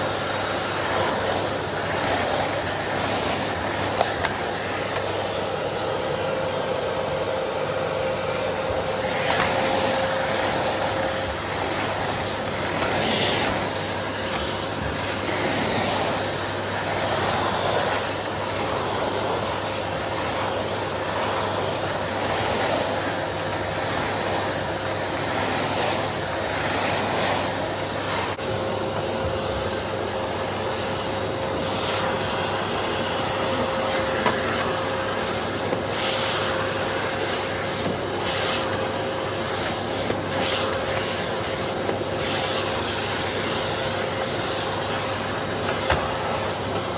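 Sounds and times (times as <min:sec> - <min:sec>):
vacuum cleaner on carpet: 0:00.0 - 0:46.9.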